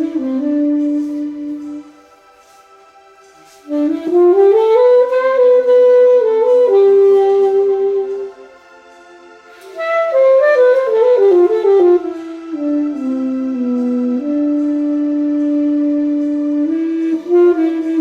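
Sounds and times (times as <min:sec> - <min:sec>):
alto saxophone melody: 0:00.0 - 0:18.0.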